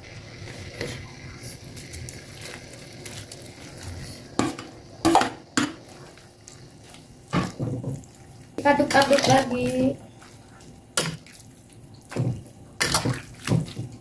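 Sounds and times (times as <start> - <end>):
curry simmering hiss: 0.0 - 11.9.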